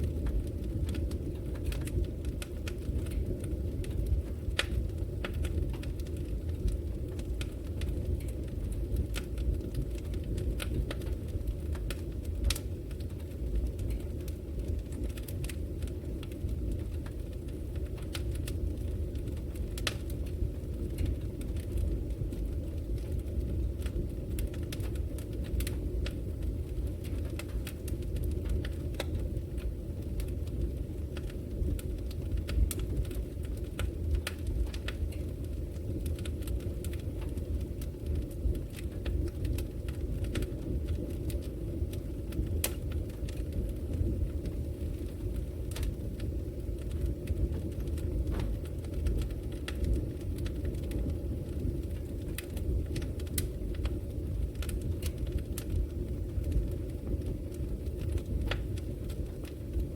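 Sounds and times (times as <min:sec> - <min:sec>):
fire crackling and popping: 0:00.0 - 0:59.9
low rush of flames: 0:00.0 - 0:59.9.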